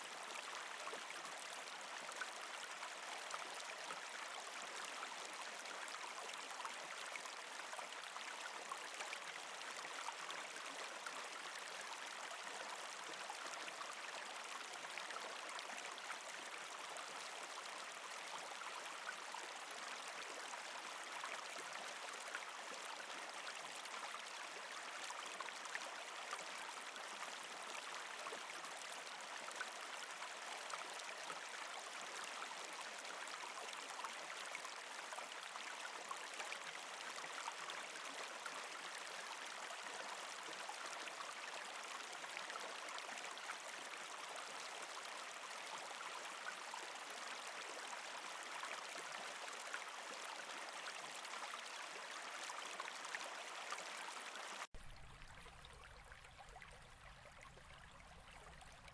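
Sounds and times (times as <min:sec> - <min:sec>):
shallow river water babbling: 0:00.0 - 0:58.9.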